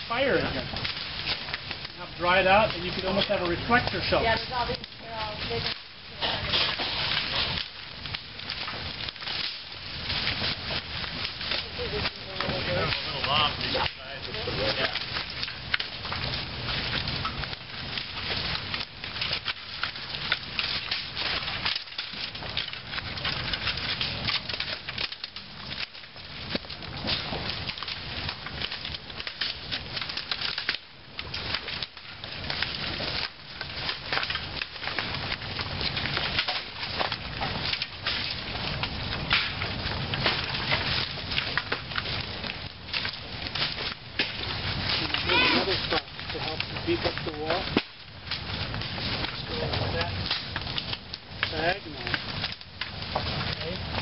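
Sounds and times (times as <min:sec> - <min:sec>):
dry leaves and twigs crunching: 0:00.0 - 0:54.0.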